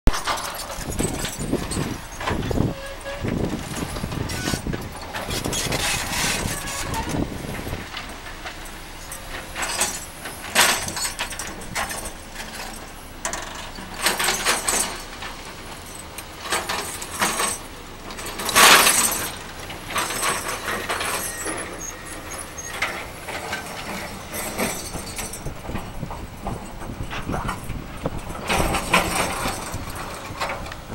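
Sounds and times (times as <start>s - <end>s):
engine rumbling: 0.1s - 30.9s.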